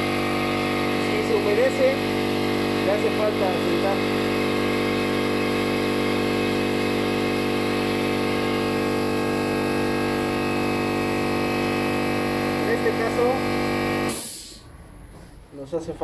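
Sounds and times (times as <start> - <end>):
motor humming steadily: 0.0 - 14.6.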